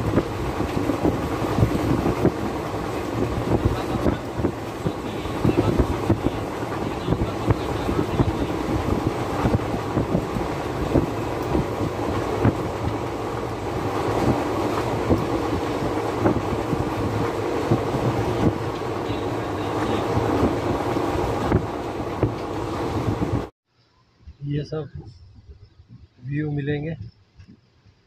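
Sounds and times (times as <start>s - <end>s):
train coach rumble and rattle: 0.0s - 23.5s
wind on microphone: 0.0s - 23.5s, 24.2s - 28.0s.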